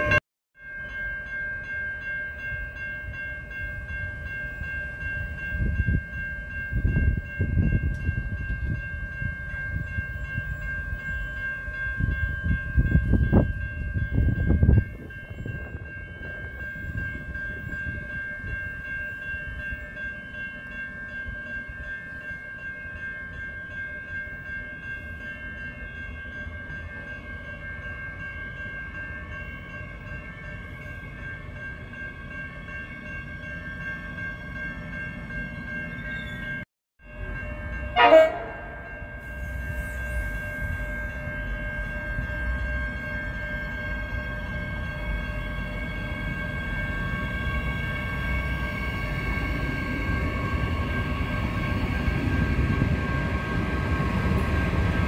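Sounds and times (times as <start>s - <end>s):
high-pitched train whine: 0.0s - 55.0s.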